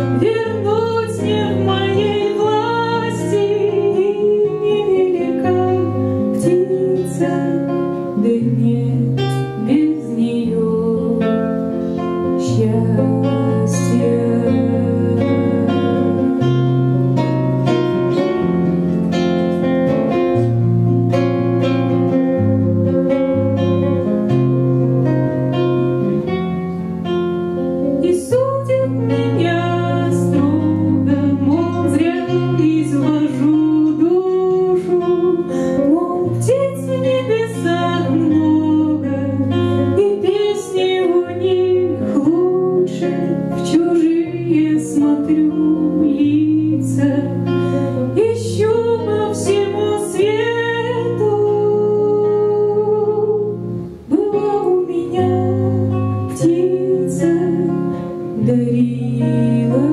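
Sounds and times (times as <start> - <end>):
woman singing with vibrato: 0.0 - 16.6, 27.8 - 59.9
plucked guitar: 0.0 - 59.9.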